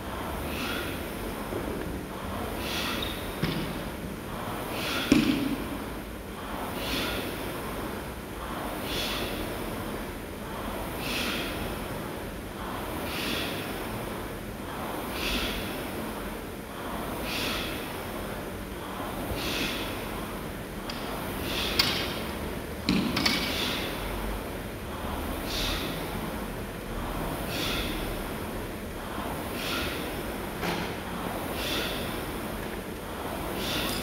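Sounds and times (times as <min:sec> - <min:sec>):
person breathing hard: 0:00.0 - 0:34.0
rowing machine flywheel whirr: 0:00.0 - 0:34.0.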